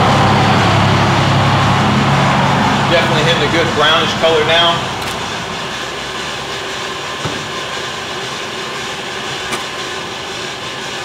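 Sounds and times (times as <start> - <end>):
coffee roaster drum whirring: 0.0 - 11.0.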